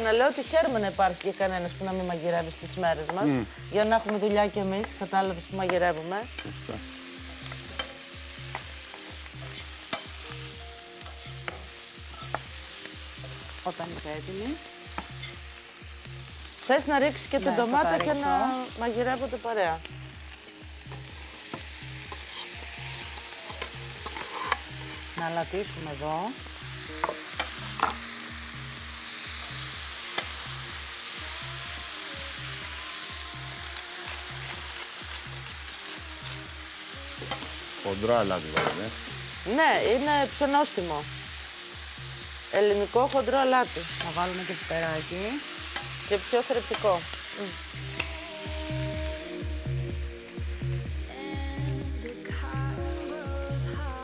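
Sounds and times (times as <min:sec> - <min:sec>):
soft background music: 0:00.0 - 0:54.0
vegetables sizzling in a frying pan: 0:00.0 - 0:54.0.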